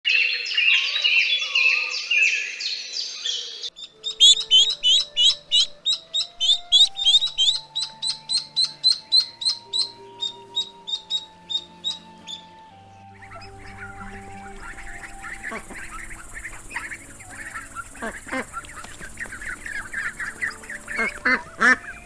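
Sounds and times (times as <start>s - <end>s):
high bird chirping: 0.1s - 22.0s
ducklings peeping: 2.8s - 22.0s
soft sustained music notes: 3.7s - 22.0s.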